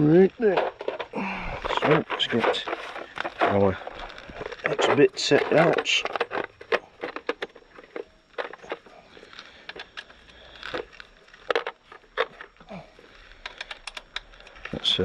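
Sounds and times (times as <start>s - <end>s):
tool bits clicking and clattering: 0.0s - 12.6s, 13.2s - 15.0s.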